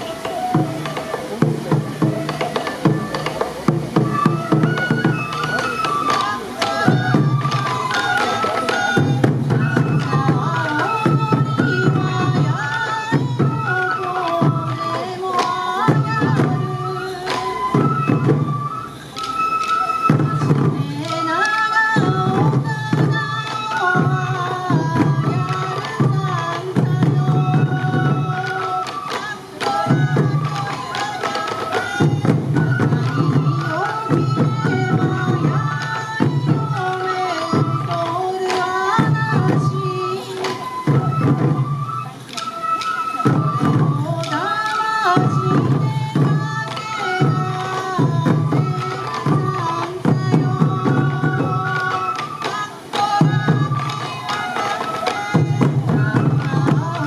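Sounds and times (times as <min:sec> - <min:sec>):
bamboo flute melody: 0:00.0 - 0:57.0
drums struck in steady beat: 0:00.0 - 0:57.0.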